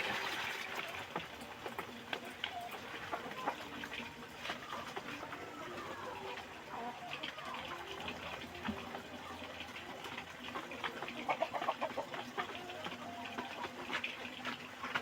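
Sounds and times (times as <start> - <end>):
chickens clucking and chirping: 0.9 - 15.0.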